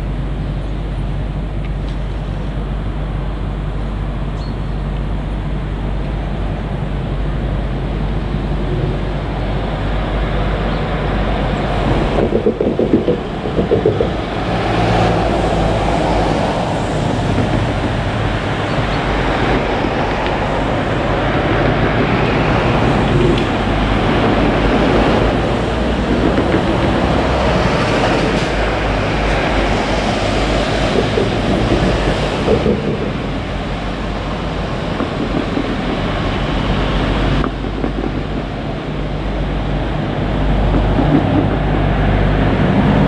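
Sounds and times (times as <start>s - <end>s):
forklift engine running: 0.0s - 43.0s
wind on microphone: 2.2s - 43.0s.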